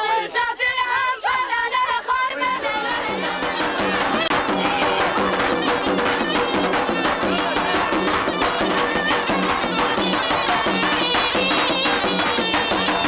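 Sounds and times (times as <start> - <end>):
group of voices singing: 0.0 - 13.0
rhythmic folk dance music: 0.0 - 13.0.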